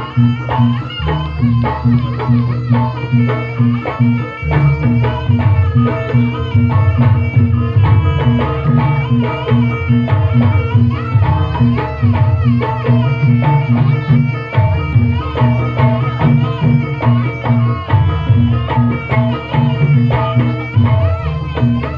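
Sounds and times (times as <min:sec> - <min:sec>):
hand drums and pitched percussion: 0:00.0 - 0:21.9
heavy low bass line: 0:00.0 - 0:21.9.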